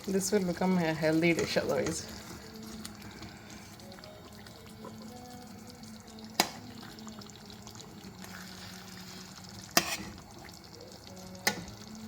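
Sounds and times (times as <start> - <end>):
curry bubbling in pot: 0.0 - 12.0.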